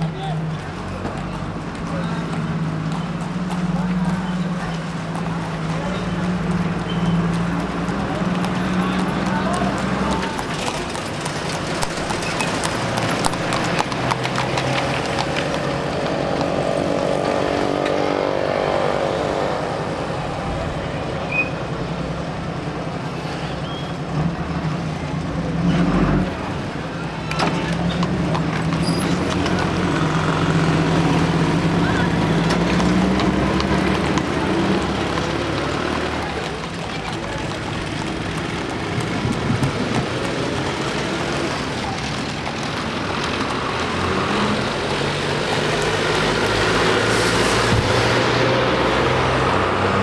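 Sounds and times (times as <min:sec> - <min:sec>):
bus engine approaching: 0:00.0 - 0:50.0
vehicle engines passing: 0:00.0 - 0:50.0.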